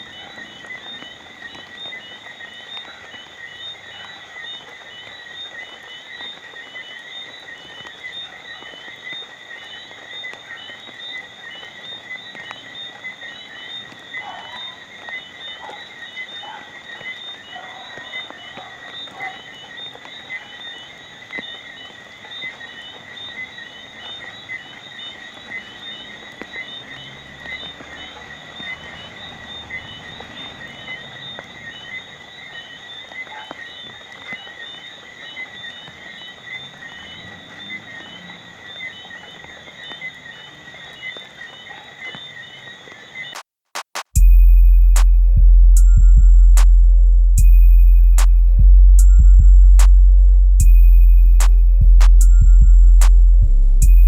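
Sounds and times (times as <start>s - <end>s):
light rain falling: 0.0s - 43.3s
frogs trilling: 0.0s - 43.4s.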